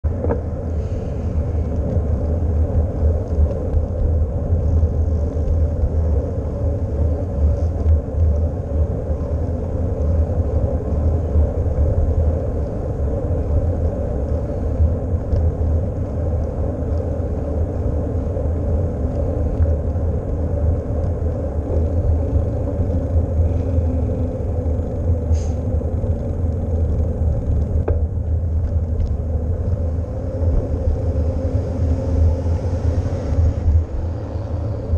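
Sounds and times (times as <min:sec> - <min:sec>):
tyres rolling on asphalt: 0:00.0 - 0:34.9
wind buffeting microphone: 0:00.0 - 0:34.9.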